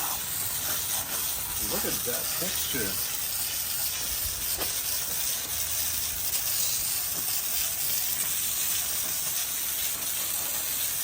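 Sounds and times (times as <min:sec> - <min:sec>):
water spraying from hose: 0:00.0 - 0:11.0.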